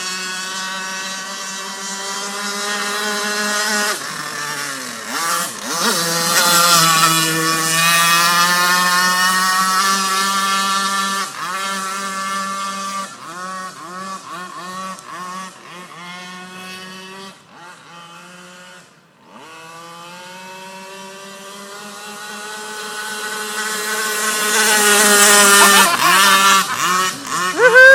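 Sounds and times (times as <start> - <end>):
small petrol engine running: 0.0 - 27.9.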